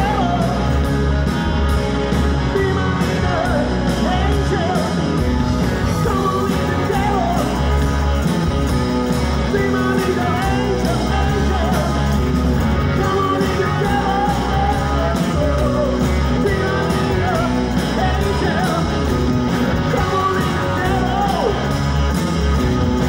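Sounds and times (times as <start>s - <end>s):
lead singer singing: 0.0s - 0.9s, 2.1s - 7.9s, 9.1s - 12.2s, 12.8s - 21.8s
bass guitar: 0.0s - 23.0s
drums: 0.0s - 23.0s
electric guitars: 0.0s - 23.0s.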